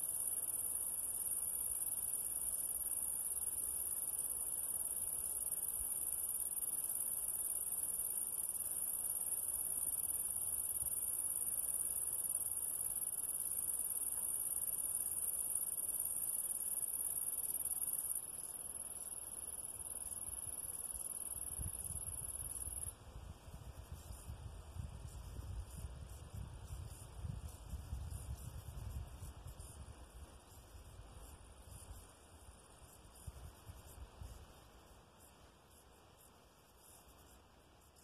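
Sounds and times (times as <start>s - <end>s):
insects chirring: 0.0s - 23.0s, 23.7s - 38.0s.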